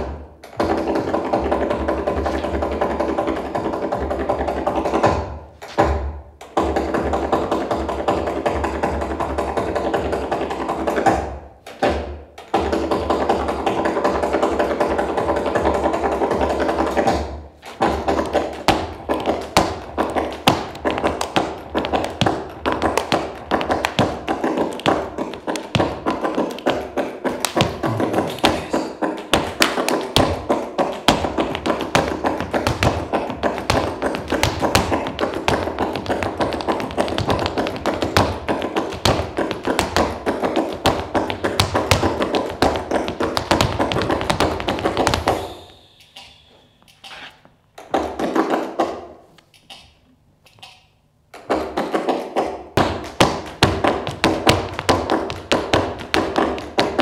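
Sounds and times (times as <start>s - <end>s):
flamenco shoes striking stage floor: 0.0s - 46.2s, 47.8s - 49.2s, 51.3s - 57.0s.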